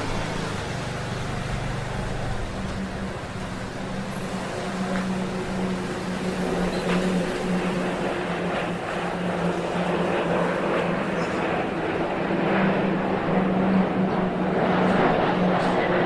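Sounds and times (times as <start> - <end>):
propeller aircraft engine droning: 0.0 - 16.0
wide noise: 0.0 - 16.0.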